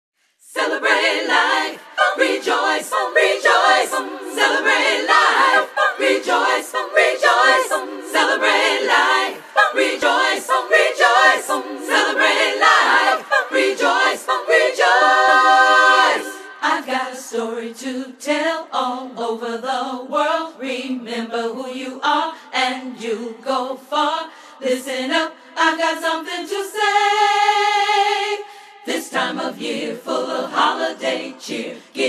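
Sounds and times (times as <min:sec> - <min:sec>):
vocal group singing: 0:00.4 - 0:32.0.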